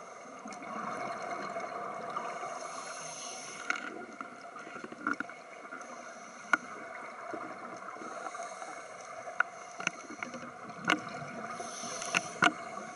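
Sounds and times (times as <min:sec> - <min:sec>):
underwater rush of water: 0:00.0 - 0:12.9.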